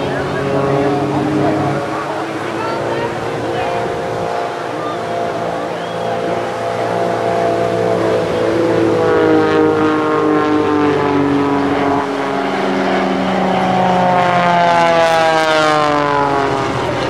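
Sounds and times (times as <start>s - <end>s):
biplane engine passing overhead: 0.0s - 17.0s.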